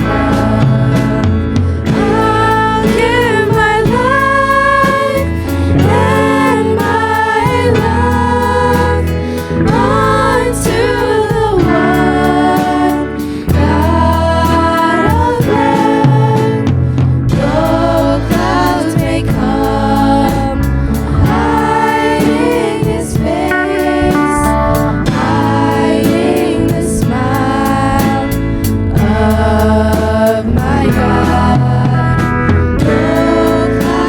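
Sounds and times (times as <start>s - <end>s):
band with steady drum beat: 0.0s - 34.0s
voices singing held notes: 0.0s - 34.0s.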